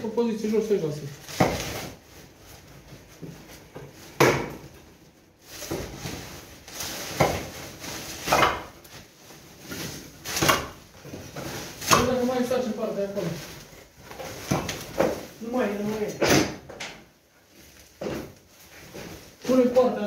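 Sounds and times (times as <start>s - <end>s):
sacks rustling: 0.0s - 16.2s, 17.3s - 20.0s.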